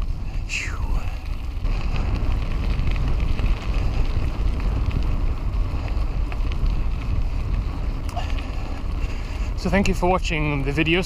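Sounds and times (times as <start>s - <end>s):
bike ticks and rattles: 0.0s - 11.0s
wind buffeting microphone: 0.0s - 11.0s.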